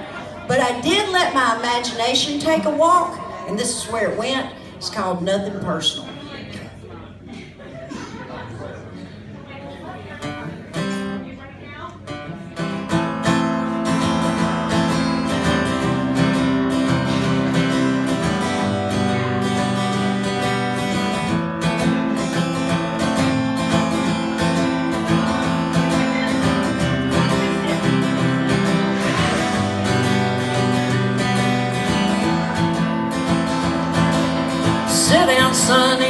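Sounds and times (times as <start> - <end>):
acoustic guitar strumming: 0.0 - 4.5, 10.2 - 11.3, 12.1 - 36.0.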